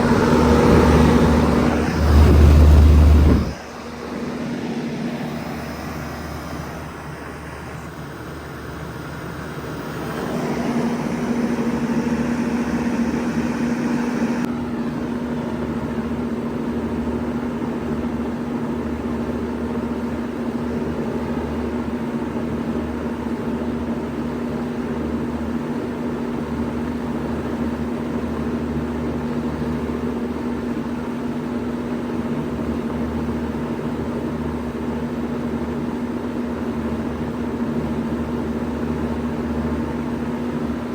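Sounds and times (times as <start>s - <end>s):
heat pump humming with fan: 0.0s - 40.9s.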